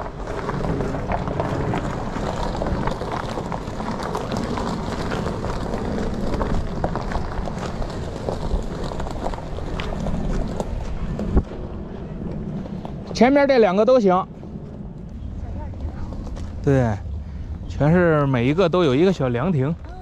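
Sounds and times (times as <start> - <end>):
tyre and road noise: 0.0 - 20.0.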